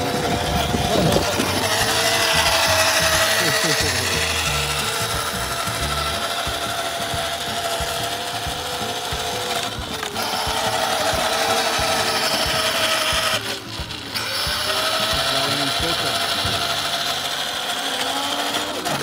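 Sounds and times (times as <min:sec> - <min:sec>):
electric motor whining: 0:00.0 - 0:19.0
plastic wheels rumbling on asphalt: 0:00.0 - 0:19.0.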